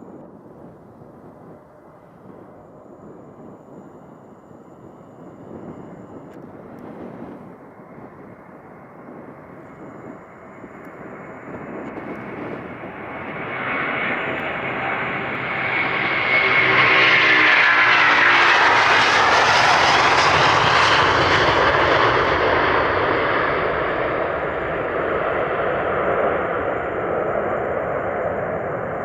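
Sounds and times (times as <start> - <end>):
jet airliner taking off: 0.0 - 29.0
jet engine whine: 0.0 - 29.0.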